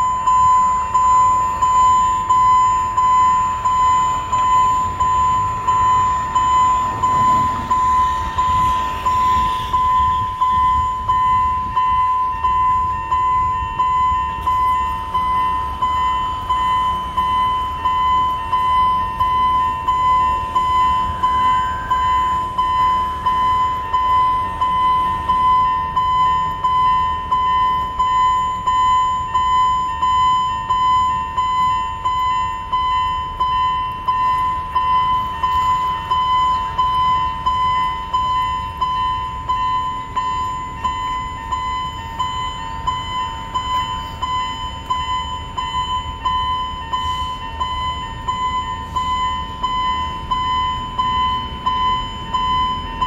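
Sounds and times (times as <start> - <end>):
level crossing warning bell: 0.0 - 53.0.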